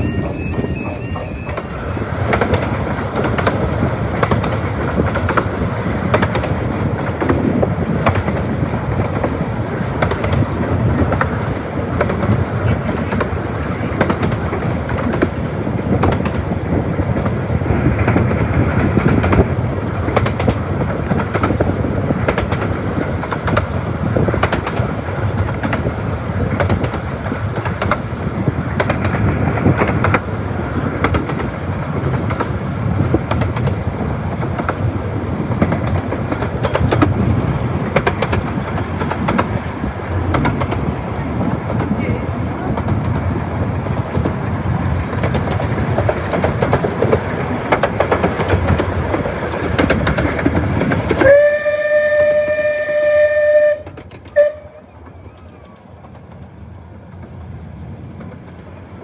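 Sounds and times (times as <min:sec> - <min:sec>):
wheels clicking over rail joints: 0:00.0 - 0:42.0, 0:42.6 - 0:59.0
train wheels rumbling on rail: 0:00.0 - 0:59.0.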